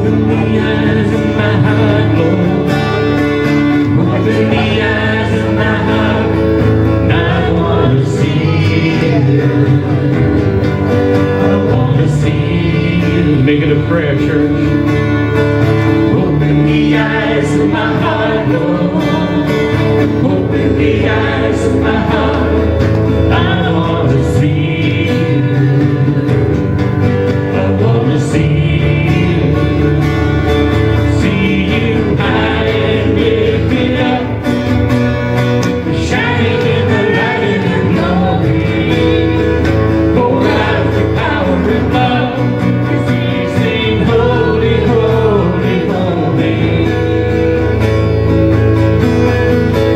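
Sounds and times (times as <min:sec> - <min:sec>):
person singing: 0:00.0 - 0:14.9, 0:16.0 - 0:30.2, 0:30.9 - 0:34.7, 0:35.8 - 0:47.4
guitar accompaniment: 0:00.0 - 0:49.9.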